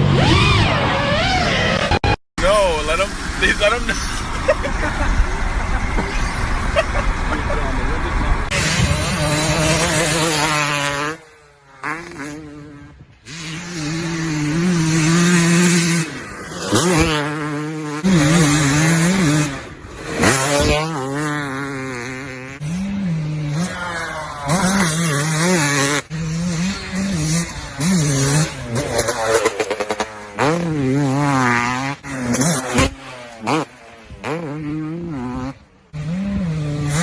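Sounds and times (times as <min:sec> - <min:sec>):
off-road motorcycle engines revving: 0:00.0 - 0:37.0.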